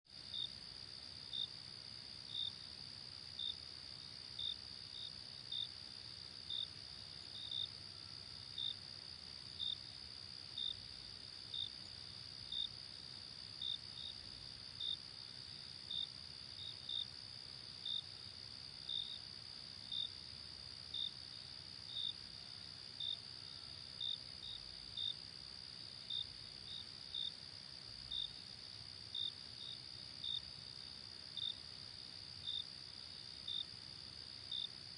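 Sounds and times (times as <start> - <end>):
cricket chirping: 0.2 - 34.9.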